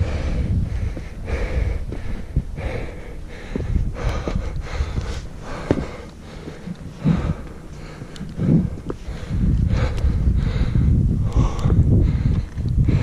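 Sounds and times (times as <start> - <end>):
heavy hard breathing: 0.0 - 13.0
wind rumble on microphone: 0.0 - 13.0.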